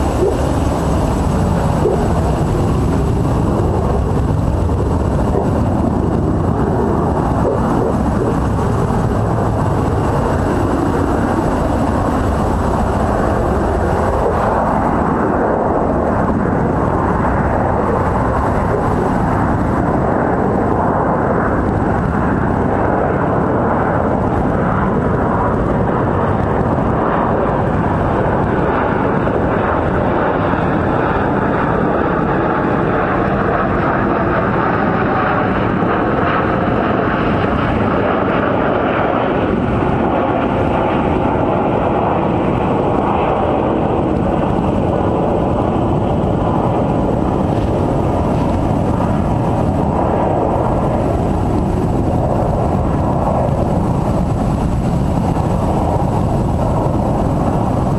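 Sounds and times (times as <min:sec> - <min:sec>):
rc helicopter droning hum: 0:00.0 - 0:57.9.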